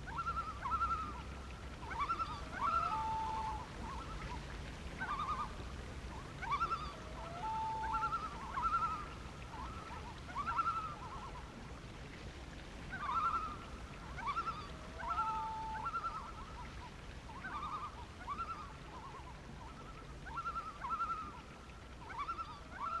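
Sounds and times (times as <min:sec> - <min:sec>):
loon calling: 0:00.1 - 0:04.1, 0:05.0 - 0:05.6, 0:06.4 - 0:11.4, 0:12.9 - 0:16.6, 0:17.3 - 0:23.0.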